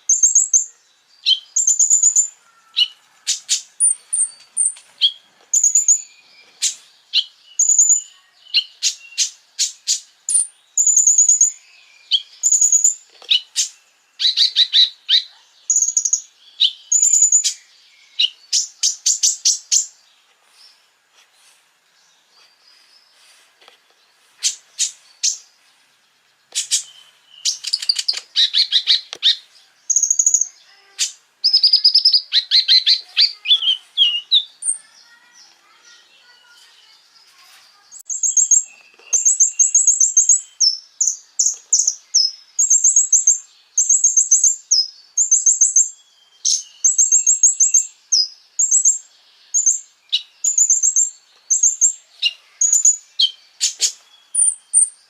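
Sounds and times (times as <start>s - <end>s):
songbird singing trills: 0.0s - 20.9s, 21.8s - 55.0s.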